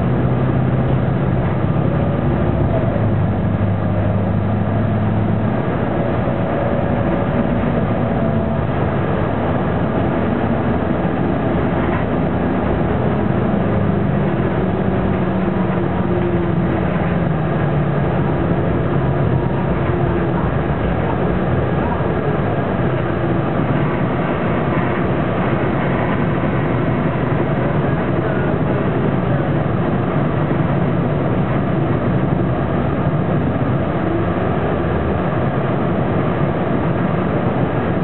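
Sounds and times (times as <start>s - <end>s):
bus diesel engine under way: 0.0s - 38.0s.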